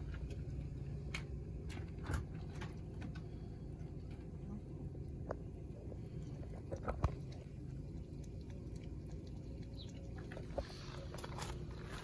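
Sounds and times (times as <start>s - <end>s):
kitten lapping water: 0.0s - 12.0s
low background rumble: 0.0s - 12.0s.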